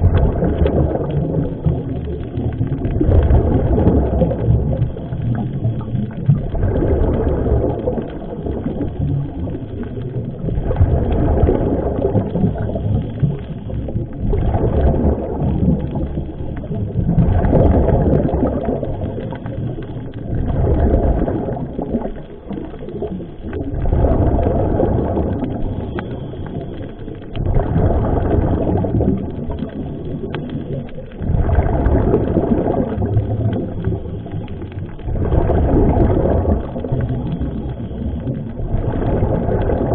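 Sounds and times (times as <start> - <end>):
exhaled bubbles rumbling: 0.0 - 39.9.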